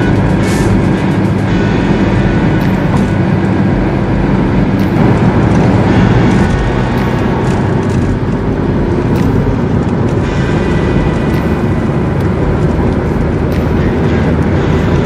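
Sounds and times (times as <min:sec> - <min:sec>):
car engine at high revs: 0:00.0 - 0:15.0
wind noise: 0:00.0 - 0:15.0.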